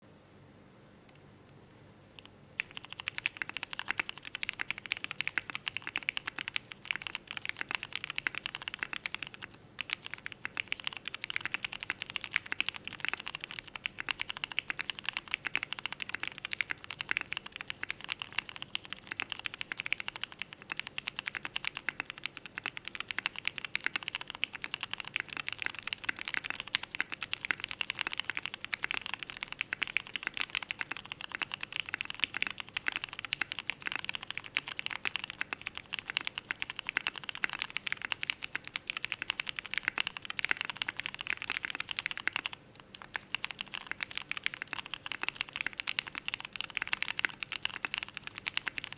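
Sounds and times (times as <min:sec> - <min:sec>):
fast typing on mechanical keyboard: 0:02.6 - 0:48.9.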